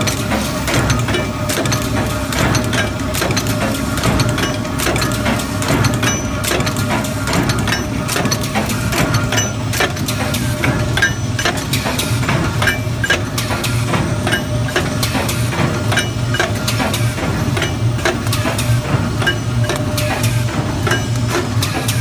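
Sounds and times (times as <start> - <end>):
metallic clicks and knocks: 0.0 - 22.0.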